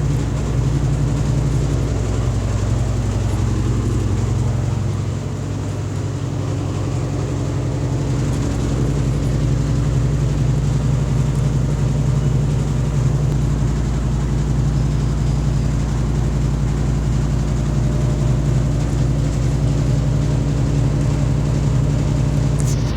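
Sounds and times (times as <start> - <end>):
washing machine droning: 0.0 - 22.9.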